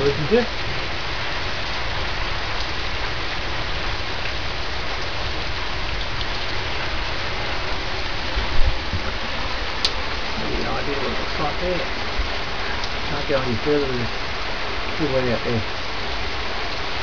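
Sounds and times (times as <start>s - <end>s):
heavy rain downpour: 0.0s - 17.0s.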